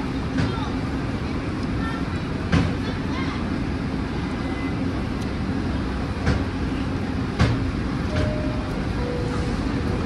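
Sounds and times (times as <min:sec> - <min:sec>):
subway train humming: 0:00.0 - 0:10.0.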